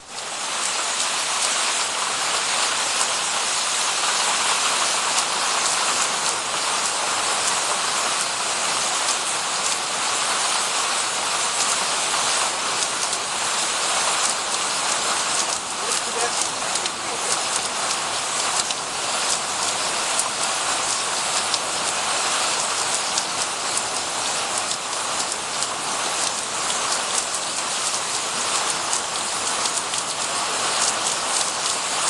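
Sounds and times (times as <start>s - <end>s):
water streaming and splashing: 0.0s - 32.0s.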